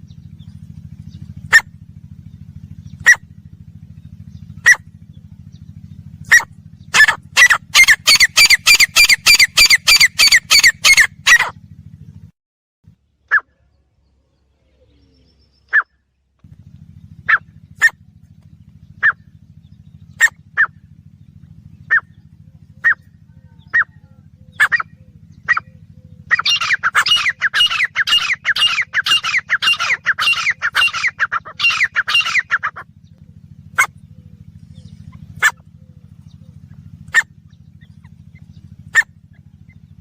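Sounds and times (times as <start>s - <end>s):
francolin calling: 0.0s - 11.6s, 13.2s - 16.1s, 16.8s - 40.0s.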